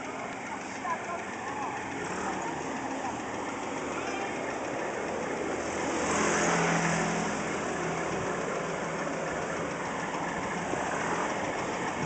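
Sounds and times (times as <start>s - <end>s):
traffic noise: 0.0s - 12.0s
vehicle engine running close by: 0.0s - 12.0s.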